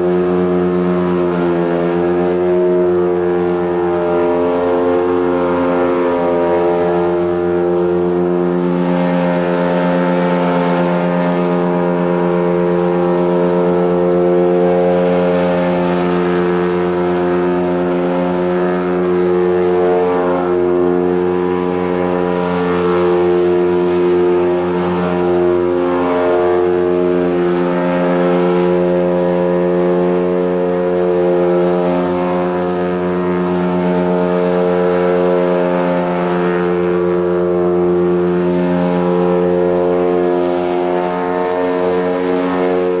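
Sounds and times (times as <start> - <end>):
ducted fans running steadily: 0.0 - 43.0.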